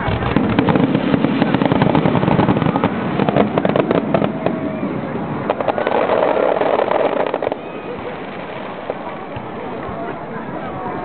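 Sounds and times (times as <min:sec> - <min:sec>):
fireworks bangs and crackles: 0:00.0 - 0:10.6.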